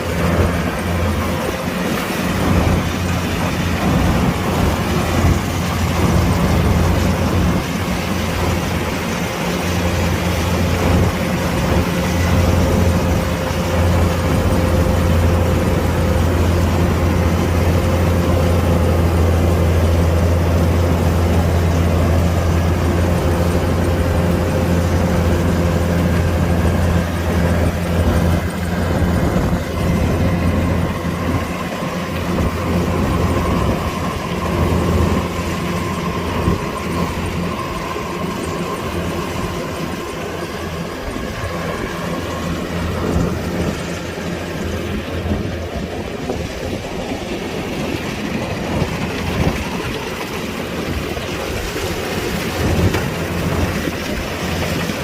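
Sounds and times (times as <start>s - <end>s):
combine harvester diesel drone: 0.0s - 55.0s
thin steady whine: 0.0s - 55.0s.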